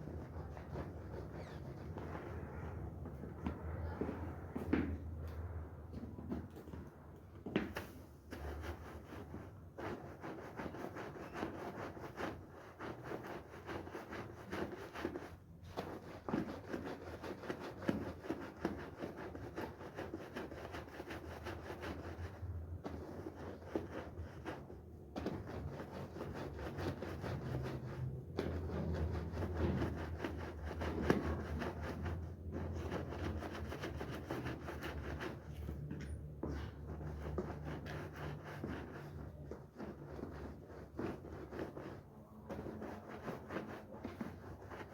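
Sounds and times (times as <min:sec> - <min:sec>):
scrubbing soapy carpet: 0:07.8 - 0:35.8, 0:36.5 - 0:44.9.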